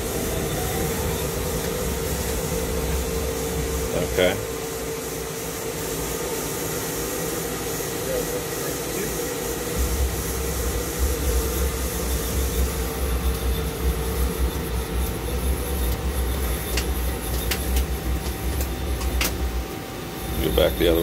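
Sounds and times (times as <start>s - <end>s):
higher hum and hiss: 0.0s - 21.0s
lathe rumbling: 0.0s - 21.0s.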